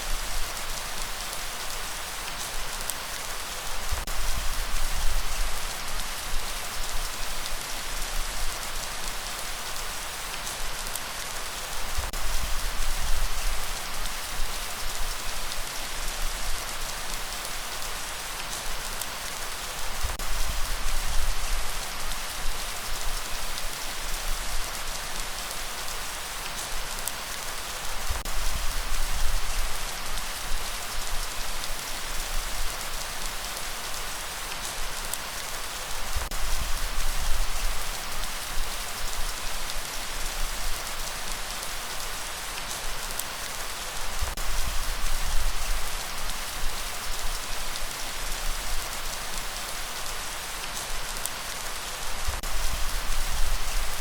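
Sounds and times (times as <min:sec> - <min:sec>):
light rain hissing: 0:00.0 - 0:54.0.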